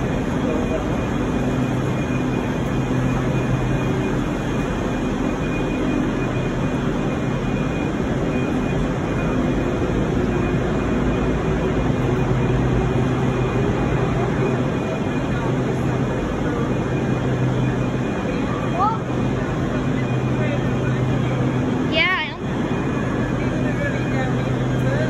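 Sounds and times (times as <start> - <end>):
station noise: 0.0 - 25.0
train equipment humming: 0.0 - 25.0.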